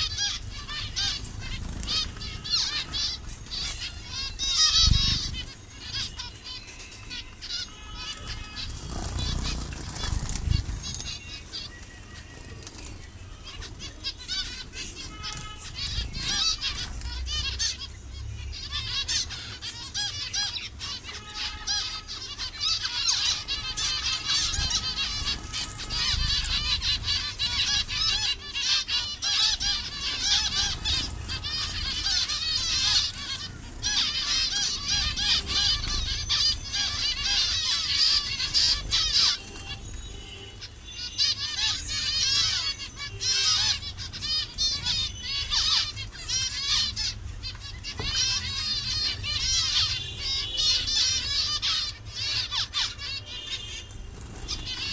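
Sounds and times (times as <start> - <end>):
finches calling: 0.0 - 54.9.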